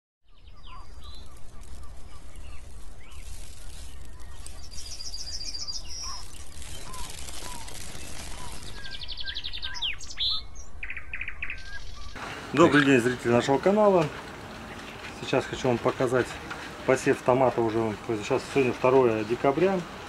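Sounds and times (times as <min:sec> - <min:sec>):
birds chirping and singing: 0:00.3 - 0:20.0.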